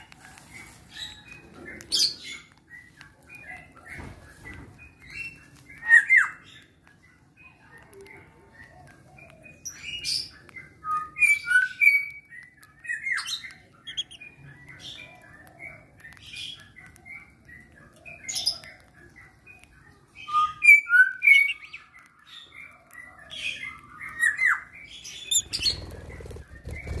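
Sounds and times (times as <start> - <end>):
lovebirds chirping and squawking: 0.0 - 27.0.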